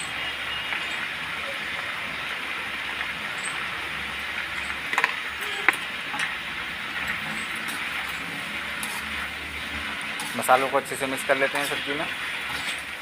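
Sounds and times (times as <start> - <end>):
food hissing in a pan: 0.1 - 13.0.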